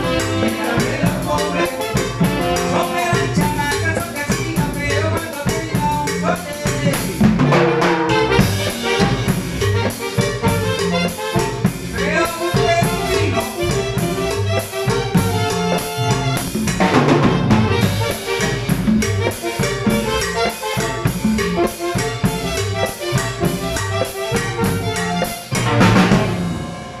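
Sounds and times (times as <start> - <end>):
congas: 0.0 - 27.0
drum kit: 0.0 - 27.0
electric bass: 0.0 - 27.0
keyboard: 0.0 - 27.0
latin dance band: 0.0 - 27.0.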